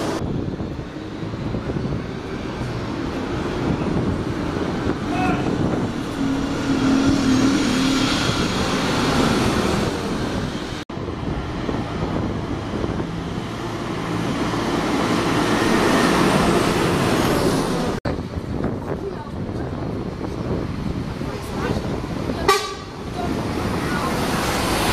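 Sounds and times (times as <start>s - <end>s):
buses passing in traffic: 0.0s - 24.9s
tyres on the road: 0.0s - 24.9s.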